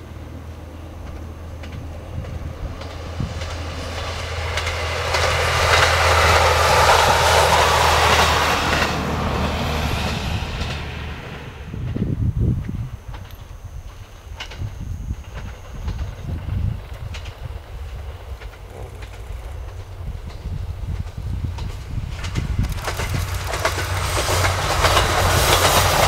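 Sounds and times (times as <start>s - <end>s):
diesel railcar engine hum: 0.0s - 26.0s
wheels on rails: 0.0s - 26.0s
low rumble: 1.0s - 26.0s.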